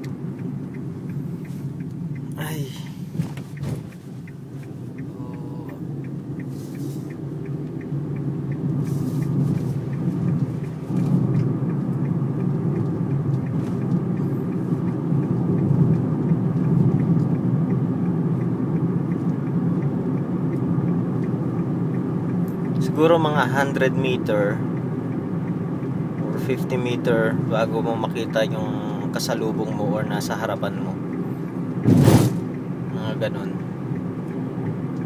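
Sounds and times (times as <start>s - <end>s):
faint even ticking: 0.0s - 31.8s
vehicle noise from inside: 0.0s - 35.0s.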